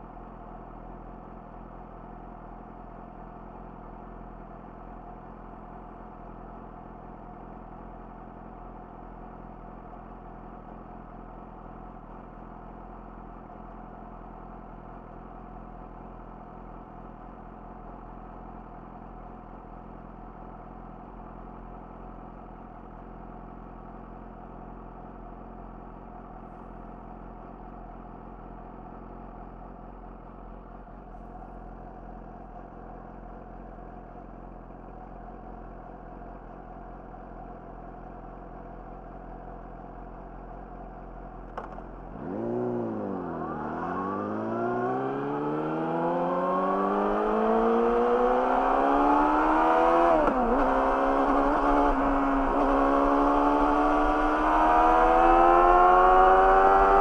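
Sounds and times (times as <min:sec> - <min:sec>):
motorcycle engine idling and accelerating: 0:00.0 - 0:57.0.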